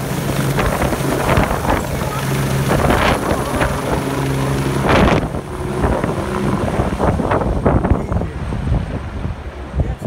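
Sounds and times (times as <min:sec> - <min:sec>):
helicopter engine tone: 0:00.0 - 0:09.7
helicopter rotor rumble: 0:00.0 - 0:10.0
wind buffeting microphone: 0:00.0 - 0:10.0.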